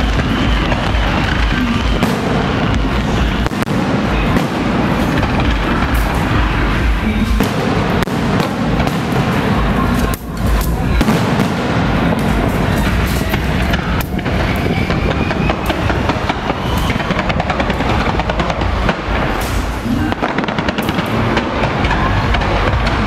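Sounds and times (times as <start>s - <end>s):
fireworks booms: 0.0s - 23.0s
fireworks crackles and pops: 0.0s - 23.0s.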